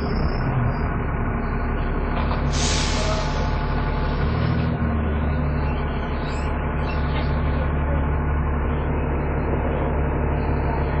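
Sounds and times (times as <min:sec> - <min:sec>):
bus engine droning with whine: 0:00.0 - 0:11.0.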